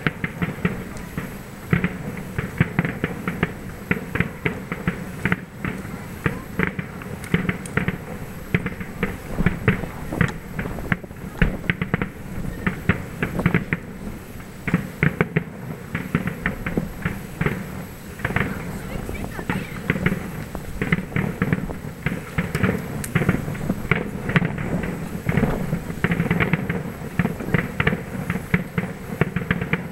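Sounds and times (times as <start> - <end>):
fireworks bangs and pops: 0.0 - 29.9.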